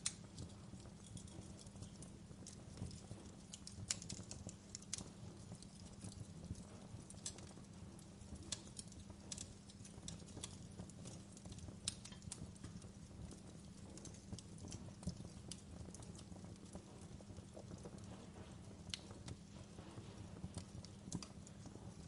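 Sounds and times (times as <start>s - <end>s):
fireplace crackling and popping: 0.0s - 22.0s
low rumble of burning: 0.0s - 22.0s.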